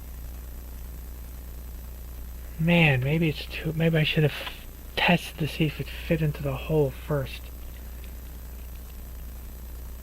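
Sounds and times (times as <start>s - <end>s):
low electrical hum with hiss: 0.0s - 10.0s.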